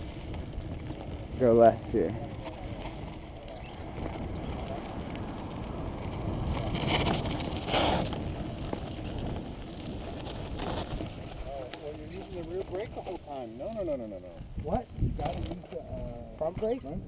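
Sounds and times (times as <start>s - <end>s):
bike tyre and drivetrain rumble: 0.0s - 17.0s
wind buffeting microphone: 0.0s - 17.0s.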